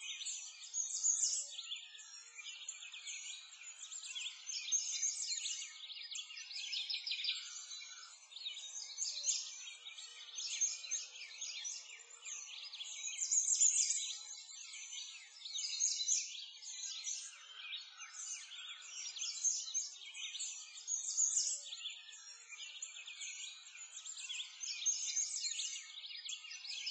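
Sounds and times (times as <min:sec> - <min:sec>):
songbirds chirping and trilling: 0:00.0 - 0:26.9.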